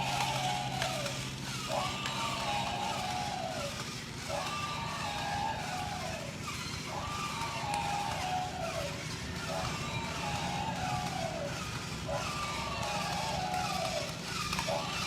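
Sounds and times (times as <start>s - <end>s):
electronic elephant call: 0.0s - 15.0s
toy motor and gears whirring: 0.0s - 15.0s.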